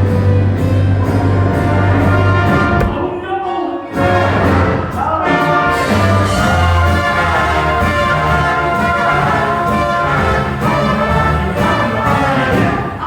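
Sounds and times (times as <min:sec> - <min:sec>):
brass-led orchestral music: 0:00.0 - 0:13.0.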